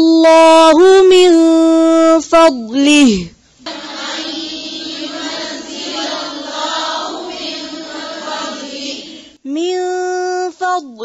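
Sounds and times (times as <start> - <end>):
woman reciting in melodic chant: 0.0 - 11.0.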